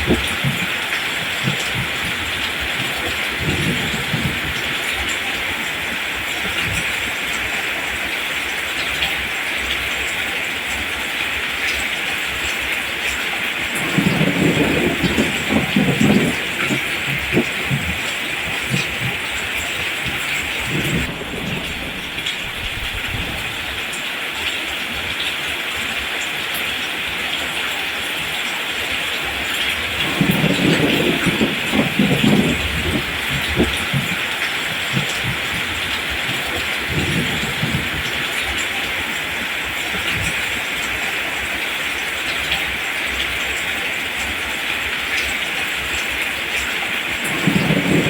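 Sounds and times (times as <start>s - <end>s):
low thunder rumble: 0.0s - 10.0s, 10.6s - 25.2s, 29.2s - 41.6s, 45.2s - 48.0s
rain falling on plants: 0.0s - 48.0s.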